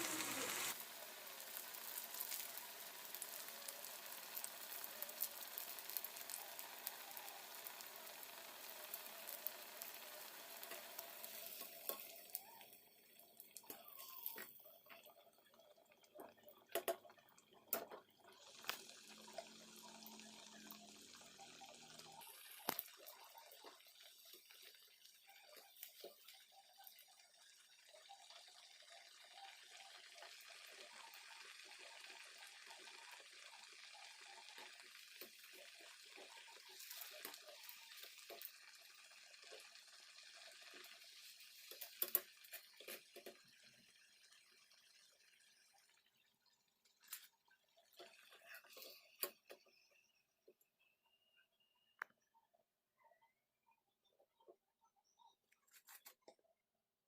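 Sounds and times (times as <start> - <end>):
cutlets sizzling in hot oil: 0.0 - 49.9.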